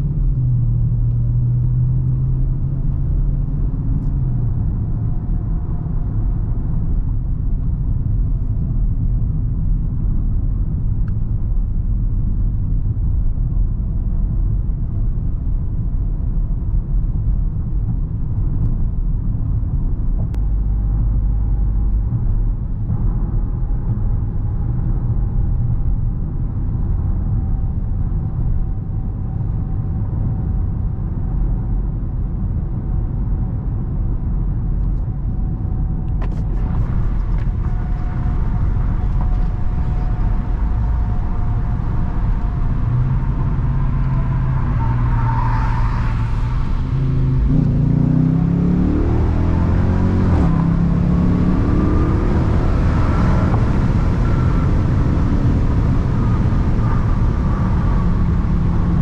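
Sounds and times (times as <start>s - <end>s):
car engine rumbling: 0.0s - 59.0s
road noise: 0.0s - 59.0s.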